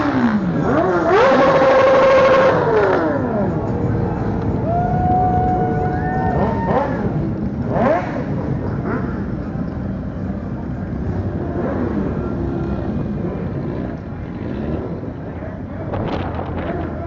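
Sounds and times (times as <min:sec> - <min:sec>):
motorcycle engine at road speed: 0:00.0 - 0:17.0.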